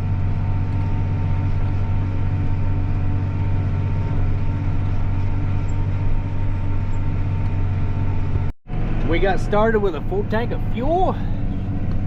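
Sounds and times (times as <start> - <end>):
tractor diesel engine humming: 0.0 - 12.0.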